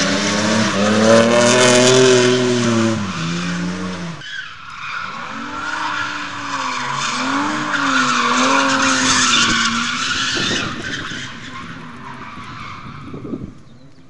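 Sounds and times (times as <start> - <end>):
car engine revving: 0.0 - 4.2, 5.0 - 12.1
tyre screech: 1.5 - 13.2.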